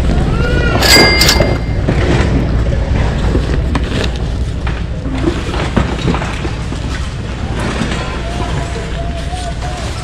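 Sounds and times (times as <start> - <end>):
steady low rumble: 1.0 - 10.0.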